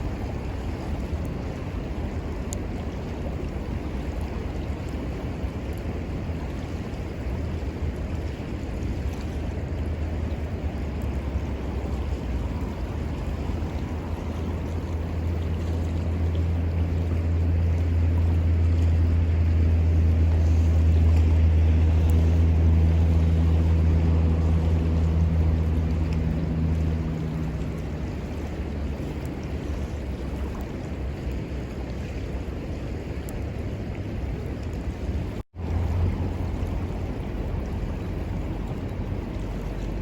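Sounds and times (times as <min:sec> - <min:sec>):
motor engine hum passing by: 0:00.0 - 0:40.0.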